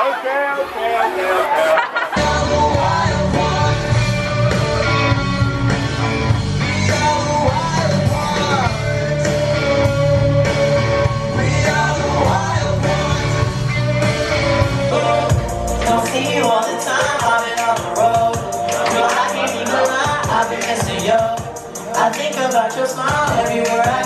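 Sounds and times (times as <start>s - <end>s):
rock song with singing: 1.4s - 24.0s.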